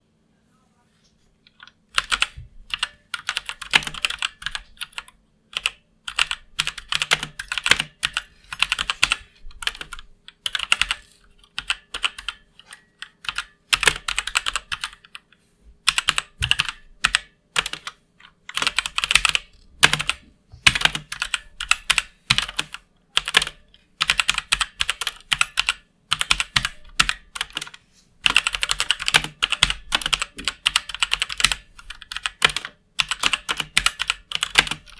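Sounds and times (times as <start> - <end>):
mechanical keyboard typing: 1.5 - 15.3, 15.9 - 34.9.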